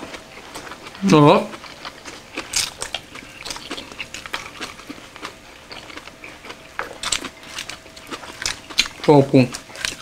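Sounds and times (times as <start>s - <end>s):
people chewing food: 0.0s - 10.0s.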